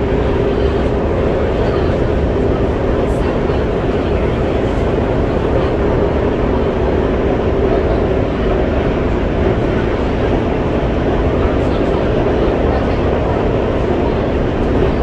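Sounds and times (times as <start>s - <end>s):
constant hum: 0.0s - 15.0s
metro train running in tunnel: 0.0s - 15.0s.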